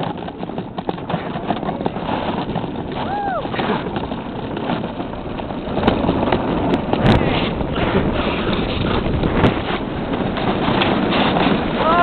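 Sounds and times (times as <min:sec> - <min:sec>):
toboggan knocks and bumps: 0:00.0 - 0:12.0
toboggan scraping on ice: 0:00.0 - 0:12.0.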